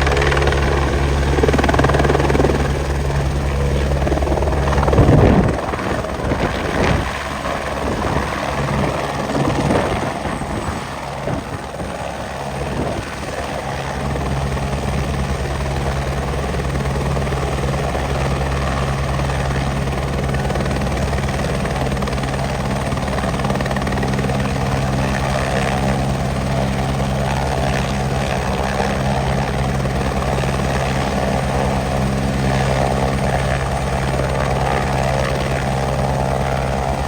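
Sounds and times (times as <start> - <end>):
helicopter rotor and engine drone: 0.0 - 37.0.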